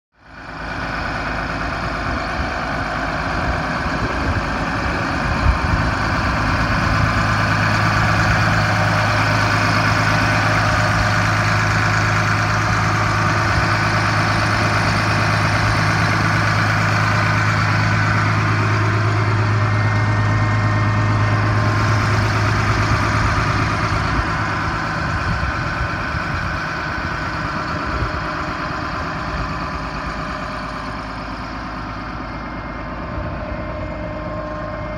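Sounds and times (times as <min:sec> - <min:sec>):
tractor diesel engine idling: 0:00.1 - 0:34.9.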